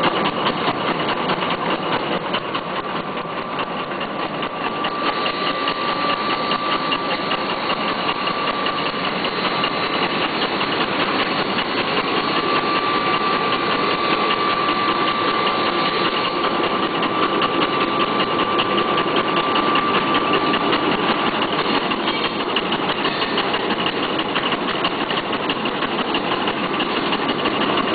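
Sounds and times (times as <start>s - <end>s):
machine clattering with high tone: 0.0s - 27.9s.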